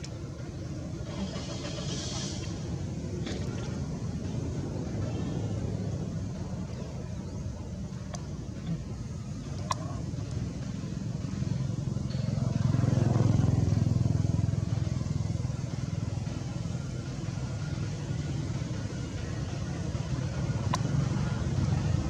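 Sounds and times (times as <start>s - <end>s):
passing vehicle engine hum: 0.0s - 22.0s.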